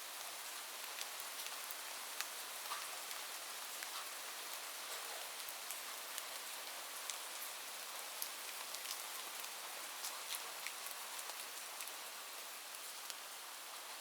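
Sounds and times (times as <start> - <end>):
gentle rain hiss: 0.0 - 14.0
raindrops ticking on a surface: 0.0 - 14.0.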